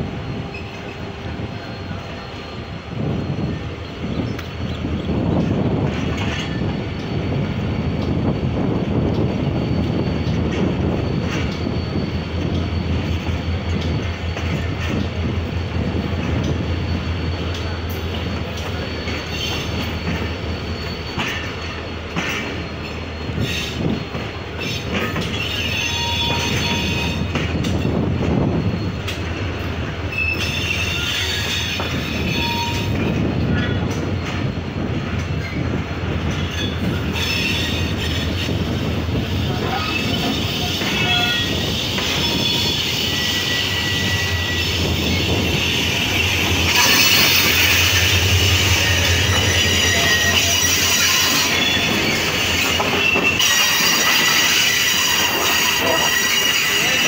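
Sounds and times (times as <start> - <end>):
train rumbling on rails: 0.0 - 57.0
train wheels squealing: 0.0 - 57.0.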